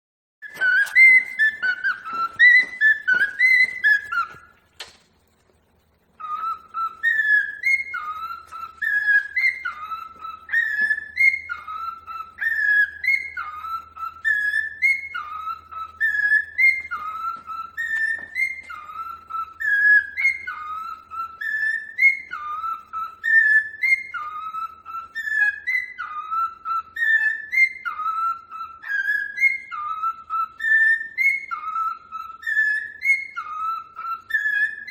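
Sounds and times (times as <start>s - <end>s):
cockatiel whistling: 0.4s - 5.0s, 6.2s - 34.9s.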